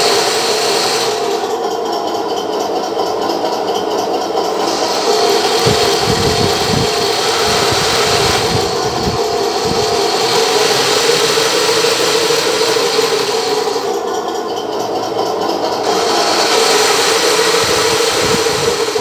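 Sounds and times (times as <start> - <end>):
toy tank motor whir and track clatter: 0.0 - 19.0.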